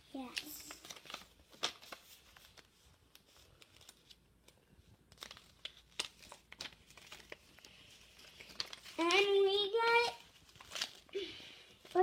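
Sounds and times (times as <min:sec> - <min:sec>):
paper and packaging rustling: 0:00.1 - 0:12.0
sharp crackles of packaging: 0:00.1 - 0:12.0.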